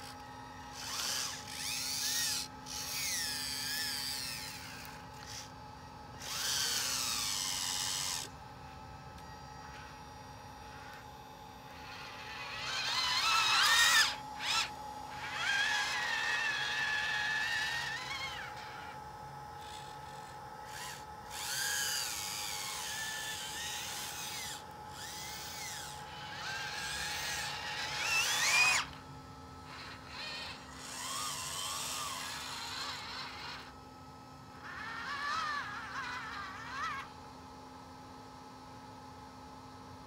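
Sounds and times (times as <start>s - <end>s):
electric motors whining: 0.0s - 37.4s
faint electronic hum: 0.0s - 40.0s.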